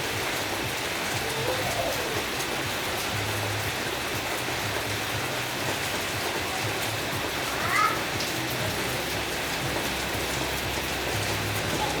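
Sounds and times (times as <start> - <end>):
rain hissing: 0.4 - 12.0
faint music: 0.6 - 12.0.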